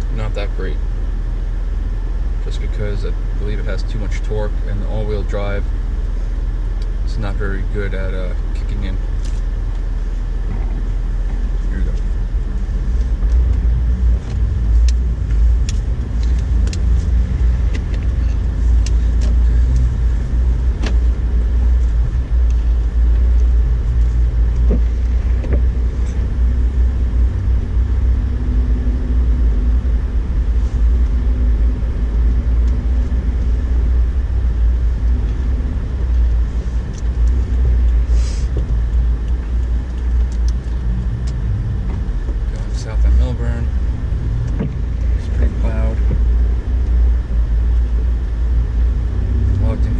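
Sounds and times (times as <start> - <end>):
truck engine low rumble: 0.0 - 49.9.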